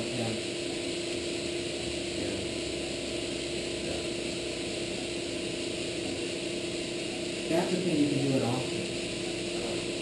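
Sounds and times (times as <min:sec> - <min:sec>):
equipment humming: 0:00.0 - 0:10.0.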